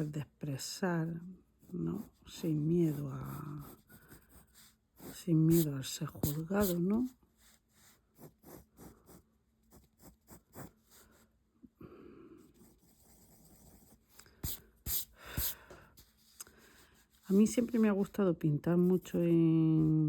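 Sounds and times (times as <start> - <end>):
pencil strokes on paper: 1.6 - 11.2, 12.4 - 20.0.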